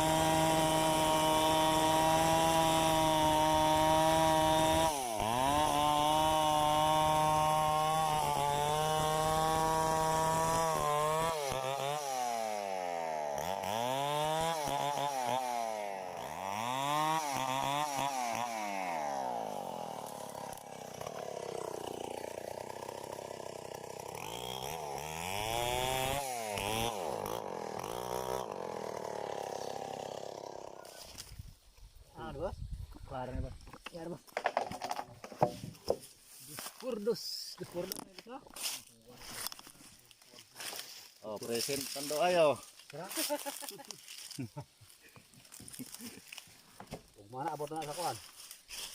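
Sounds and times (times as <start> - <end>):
chainsaw cutting wood: 0.0 - 31.9, 33.6 - 36.9, 37.7 - 44.4, 45.0 - 48.9.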